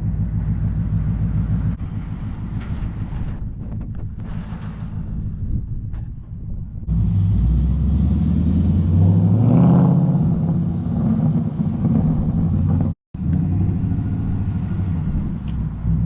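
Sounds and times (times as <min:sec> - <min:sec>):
car engine rumbling and revving: 0:00.0 - 0:06.0, 0:06.6 - 0:16.0.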